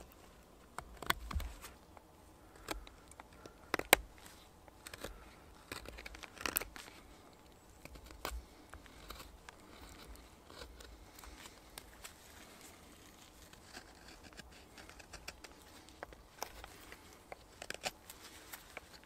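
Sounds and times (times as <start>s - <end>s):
knife scraping a stick: 2.5s - 19.0s.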